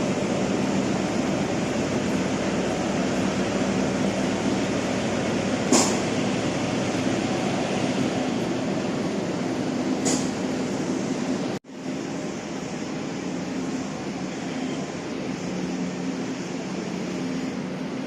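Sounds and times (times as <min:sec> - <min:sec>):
train running: 0:00.0 - 0:18.0.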